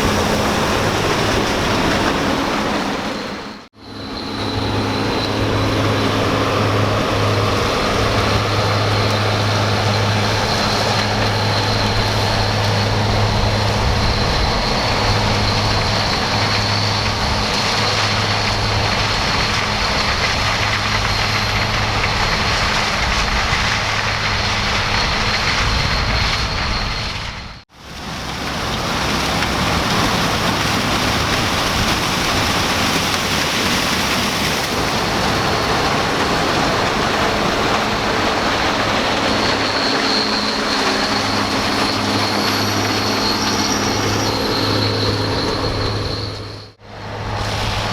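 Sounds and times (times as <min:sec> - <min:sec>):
combine harvester droning: 0:00.0 - 0:47.9.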